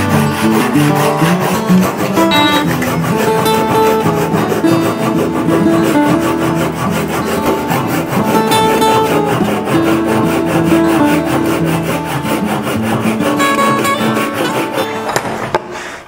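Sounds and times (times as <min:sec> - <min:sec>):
acoustic guitar music: 0:00.0 - 0:15.5
hand saw cutting wood: 0:00.0 - 0:16.0.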